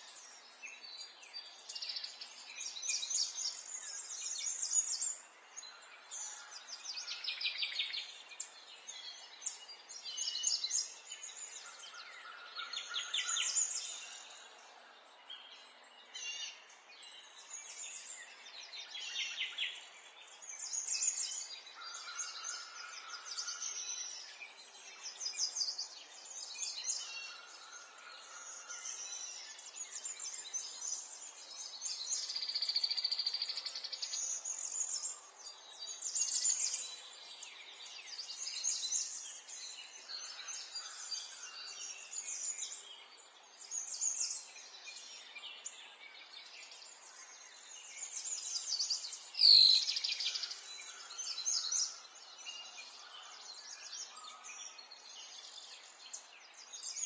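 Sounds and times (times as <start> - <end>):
songbirds singing trills: 0.0 - 57.0.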